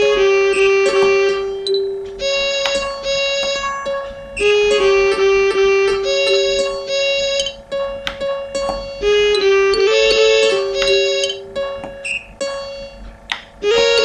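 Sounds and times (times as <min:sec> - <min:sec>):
midi keyboard music: 0:00.0 - 0:14.0.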